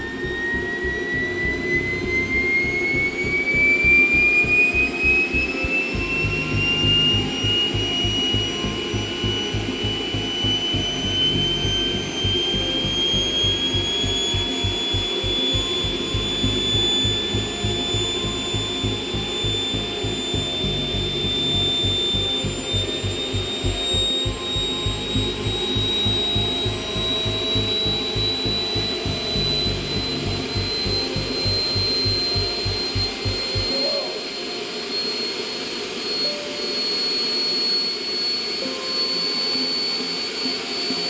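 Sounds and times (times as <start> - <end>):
low rough pulsing: 0.0 - 34.7
electric compressor whine: 0.0 - 41.0.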